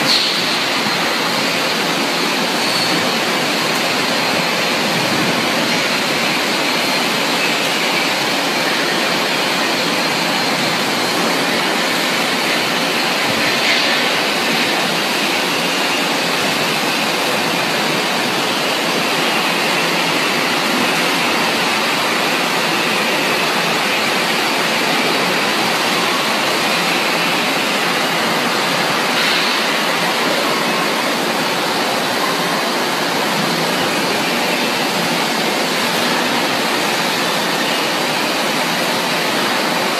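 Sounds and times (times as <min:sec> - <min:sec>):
factory machinery rushing: 0:00.0 - 0:39.9.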